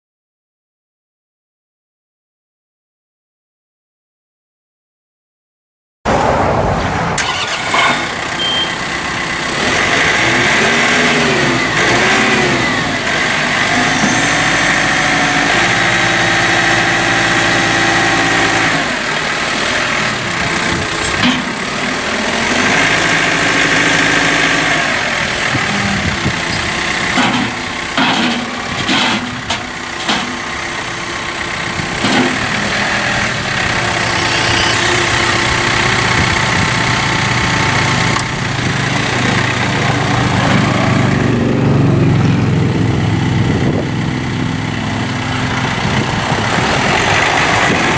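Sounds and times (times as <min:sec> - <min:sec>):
tractor diesel engine running: 0:06.1 - 0:47.9.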